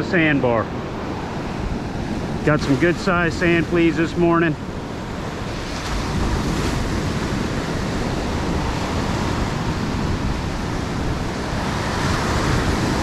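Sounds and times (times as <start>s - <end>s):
surf breaking on beach: 0.0s - 13.0s
wind rumbling on microphone: 0.0s - 13.0s.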